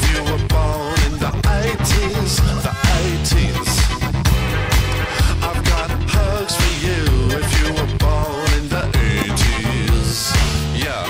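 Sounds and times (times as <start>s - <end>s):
upbeat pop song with vocals: 0.0s - 11.0s.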